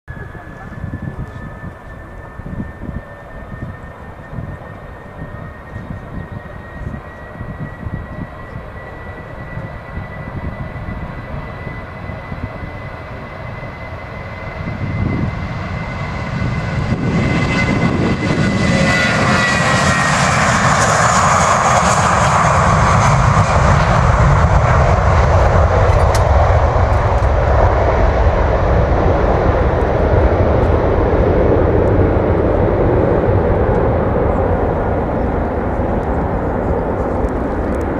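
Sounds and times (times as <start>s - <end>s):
jet airliner taking off: 0.1s - 37.9s.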